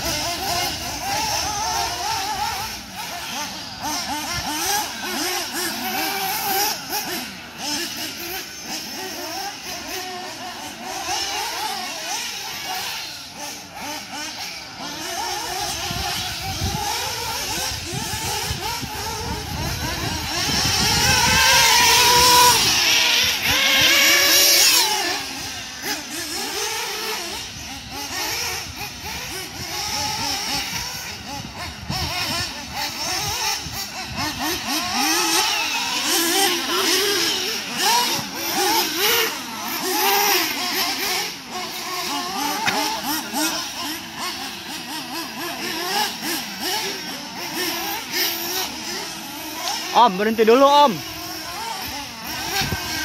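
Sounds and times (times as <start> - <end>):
small engines revving: 0.0 - 53.0.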